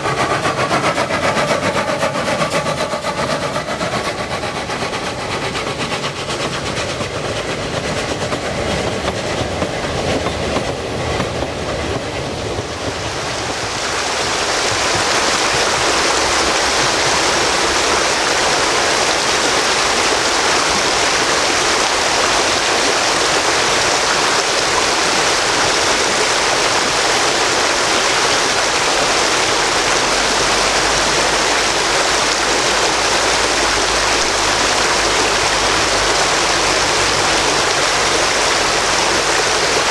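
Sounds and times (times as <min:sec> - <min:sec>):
flowing stream water: 0:00.0 - 0:39.9
train wheels clickety-clack: 0:00.0 - 0:39.9.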